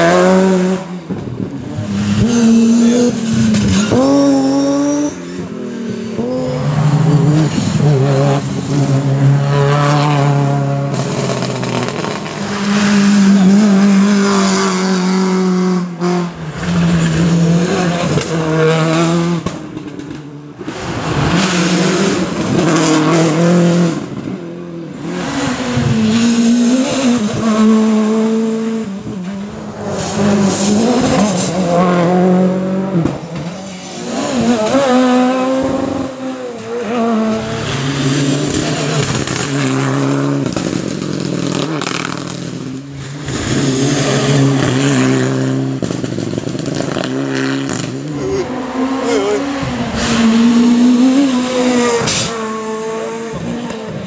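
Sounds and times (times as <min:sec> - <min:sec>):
rally cars passing at full throttle: 0:00.0 - 0:54.0.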